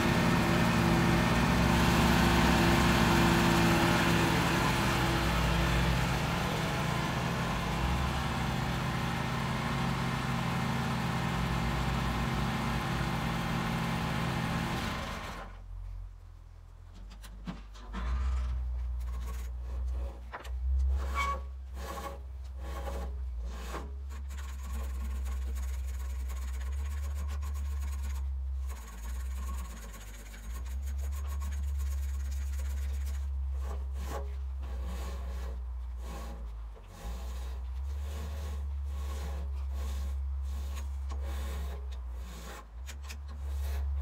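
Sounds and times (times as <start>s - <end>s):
knocks and scrapes: 0.0s - 11.7s, 16.7s - 44.0s
band blade sawing wood: 0.0s - 15.2s, 21.7s - 44.0s
sawmill engine droning: 0.0s - 15.6s, 21.8s - 44.0s.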